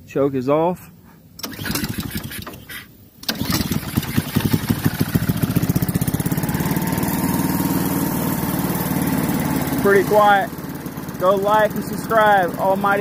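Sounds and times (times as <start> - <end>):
small engine starting and running: 1.4 - 13.0.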